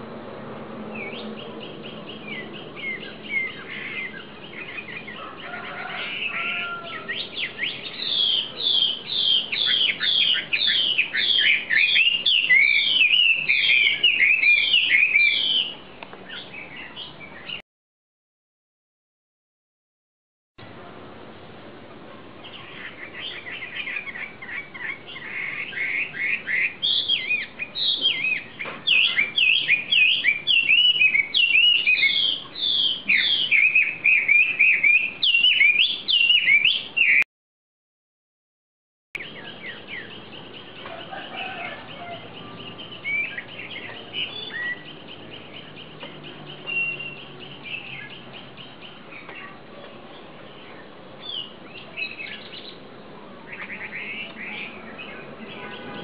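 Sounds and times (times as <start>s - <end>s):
songbird chirping: 0.8s - 17.6s, 22.3s - 37.3s, 39.2s - 56.0s.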